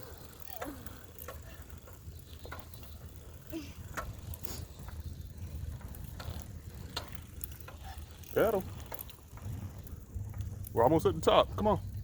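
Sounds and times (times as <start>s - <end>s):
bicycle drivetrain clicking: 0.0s - 12.0s.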